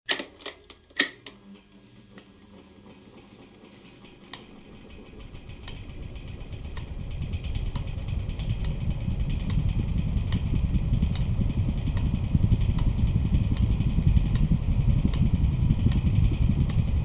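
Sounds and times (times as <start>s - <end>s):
electric fan whirring: 0.1s - 17.0s.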